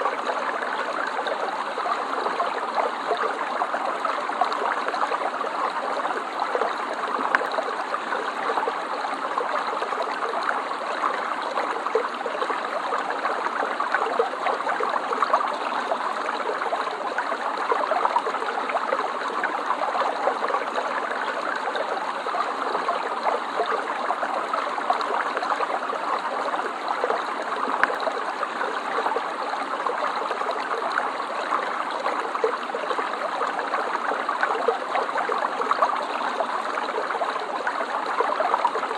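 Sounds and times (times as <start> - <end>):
stream water babbling over stones: 0.0 - 38.9.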